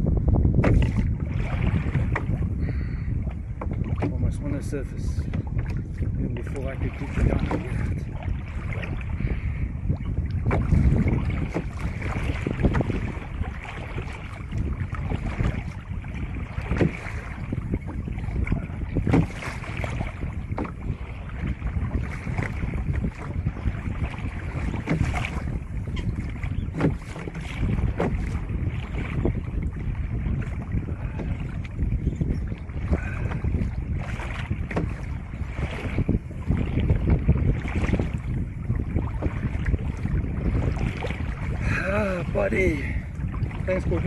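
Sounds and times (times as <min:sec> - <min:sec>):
water against hull: 0:00.0 - 0:44.0
wind buffeting microphone: 0:00.0 - 0:44.0.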